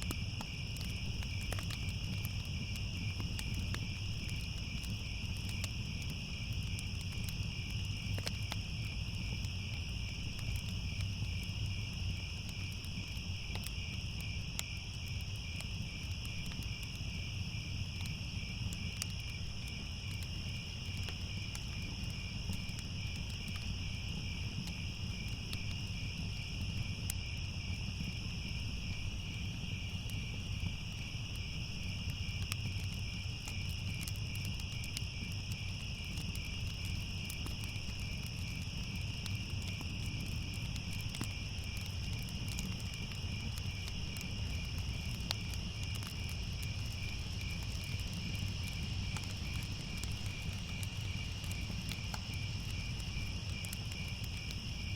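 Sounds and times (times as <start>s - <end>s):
crickets chirping: 0.0s - 54.9s
wood fire crackling: 0.0s - 54.9s.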